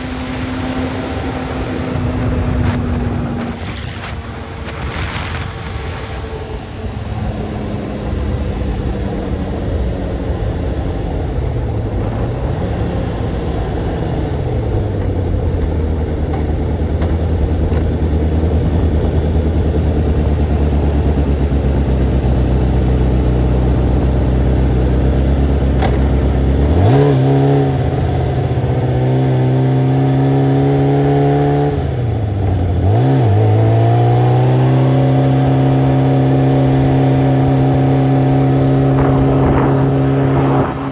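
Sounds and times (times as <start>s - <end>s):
sport motorcycle engine running: 0.0s - 40.9s.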